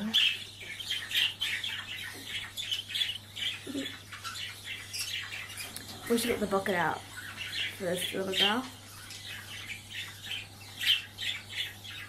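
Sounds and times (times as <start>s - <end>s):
bird chick cheeping: 0.0s - 12.0s.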